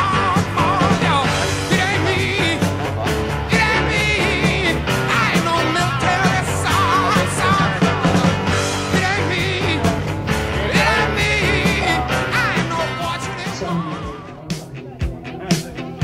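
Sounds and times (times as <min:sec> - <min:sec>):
rock song with singing: 0:00.0 - 0:16.0.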